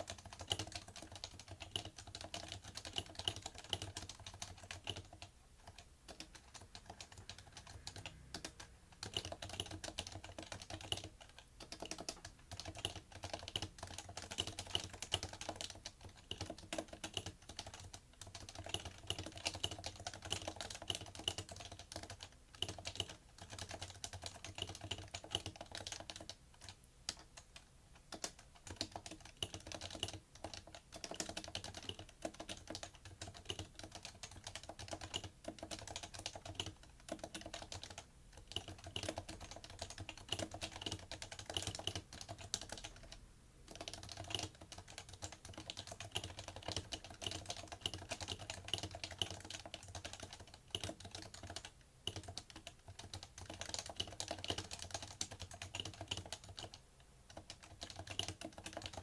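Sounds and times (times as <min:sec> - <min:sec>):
fast keyboard typing: 0:00.0 - 0:59.0.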